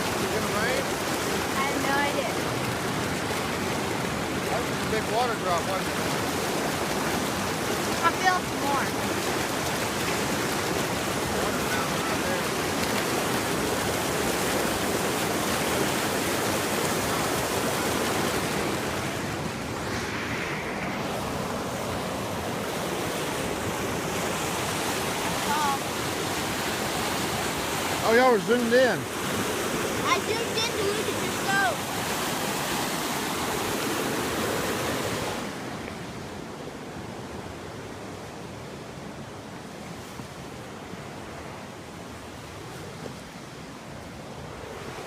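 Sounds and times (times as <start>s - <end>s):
creek water rushing over rocks: 0.0s - 45.0s.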